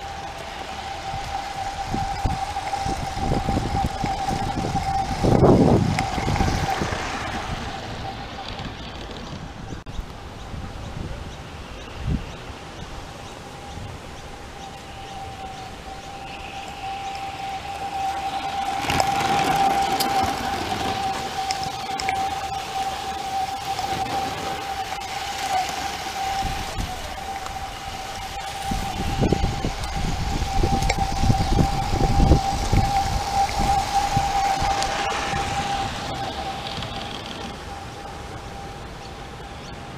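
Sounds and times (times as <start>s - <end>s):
steady high tone: 0.0s - 9.4s, 12.0s - 39.9s
model steam locomotive running: 0.0s - 39.9s
wheels rumbling and clattering: 0.0s - 39.9s.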